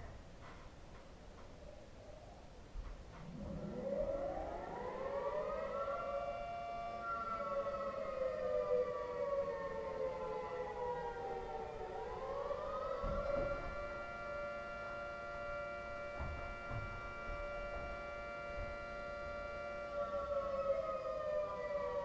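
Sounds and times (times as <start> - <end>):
warning siren sliding in pitch: 3.3 - 22.0.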